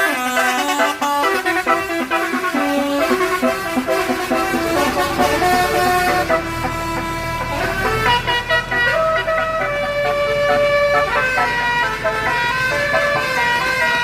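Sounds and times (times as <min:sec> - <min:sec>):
shrill air horn tune: 0:00.0 - 0:14.0.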